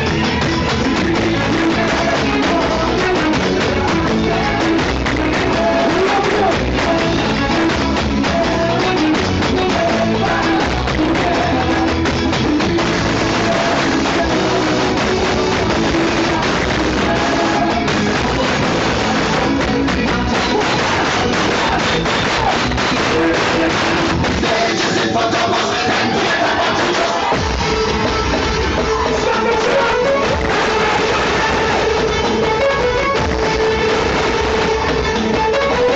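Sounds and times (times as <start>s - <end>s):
electric guitar: 0.0s - 35.9s
live band music: 0.0s - 35.9s.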